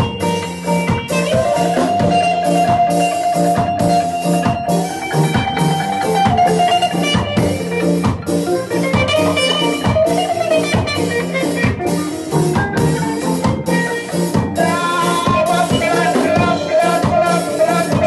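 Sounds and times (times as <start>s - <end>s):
drum kit steady beat: 0.0s - 18.0s
electric guitar lead line: 0.0s - 18.0s.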